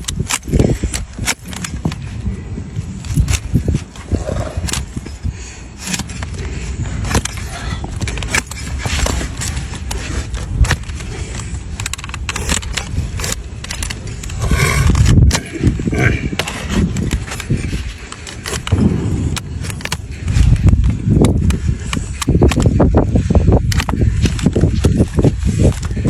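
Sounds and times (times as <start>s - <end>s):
trimming tools scraping hoof: 0.0s - 2.3s, 2.9s - 26.0s.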